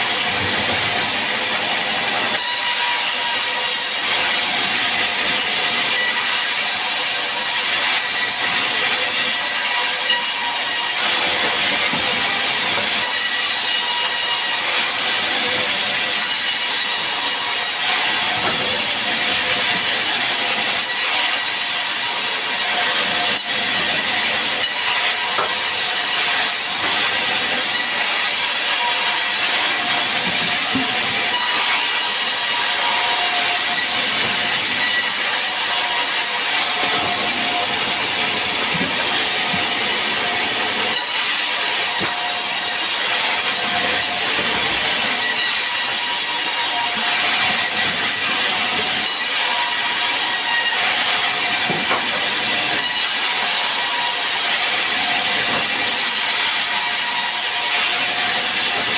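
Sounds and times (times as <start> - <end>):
saw cutting wood: 0.0 - 58.9.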